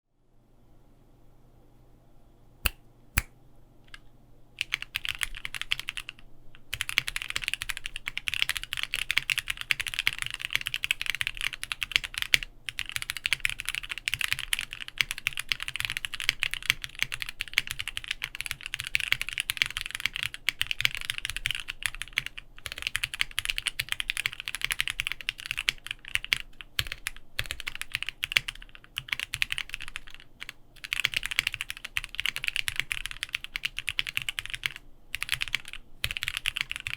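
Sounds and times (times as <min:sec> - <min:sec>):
fast typing on mechanical keyboard: 0:04.6 - 0:36.9.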